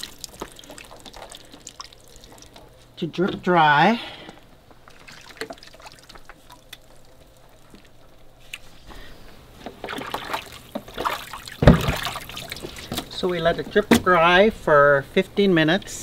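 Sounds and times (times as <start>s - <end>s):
brine dripping and trickling: 0.0s - 13.6s.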